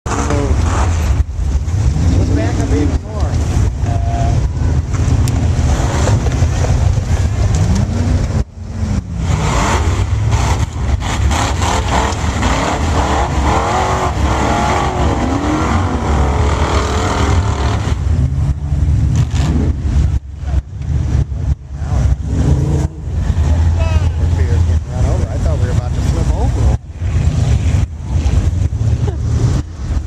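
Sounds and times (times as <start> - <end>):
off-road engine revving: 0.0 - 30.0.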